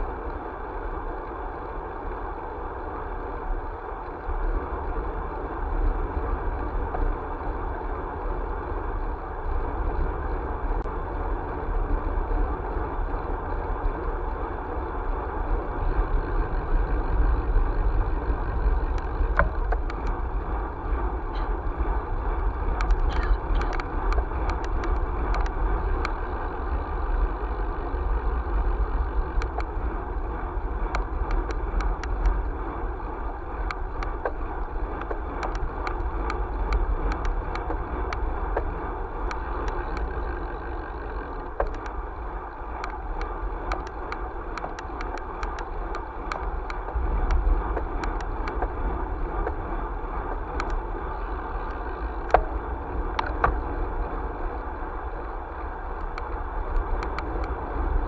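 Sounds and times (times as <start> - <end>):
tyre and road noise: 0.0 - 58.0
wind rumbling on microphone: 0.0 - 58.0
small ticks and rattles: 3.0 - 58.0.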